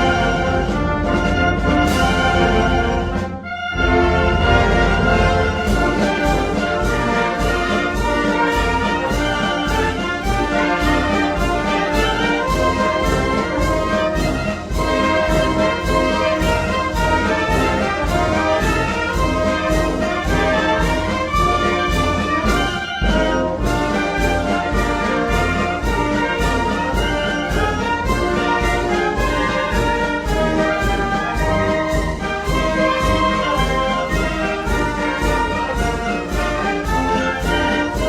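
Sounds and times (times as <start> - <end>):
trumpets and trombones: 0.0 - 38.0
bass drum beat: 4.4 - 38.0.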